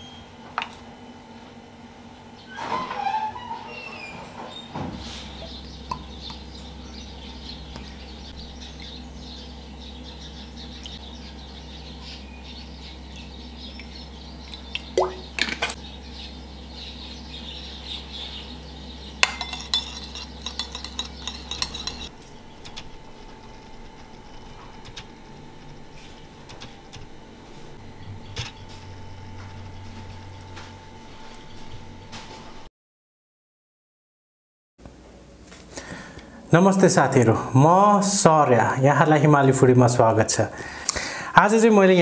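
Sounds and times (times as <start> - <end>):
steady low hum: 0.0 - 32.7, 34.9 - 42.0.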